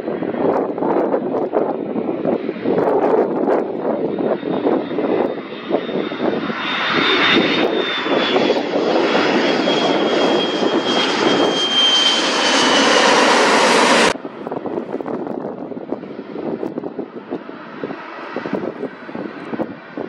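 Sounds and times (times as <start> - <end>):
jet engines passing overhead: 0.0 - 20.0.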